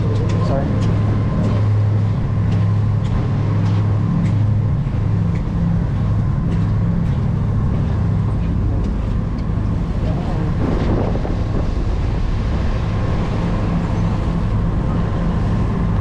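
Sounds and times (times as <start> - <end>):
boat engines droning: 0.0 - 16.0
water rushing along hull: 0.0 - 16.0.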